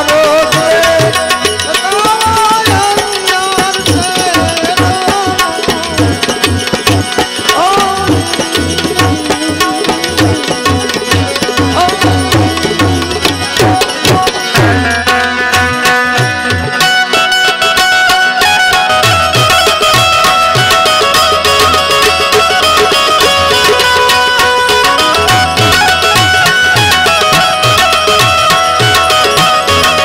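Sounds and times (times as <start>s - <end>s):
sliding melody line: 0.0s - 30.0s
tabla beat: 0.0s - 30.0s.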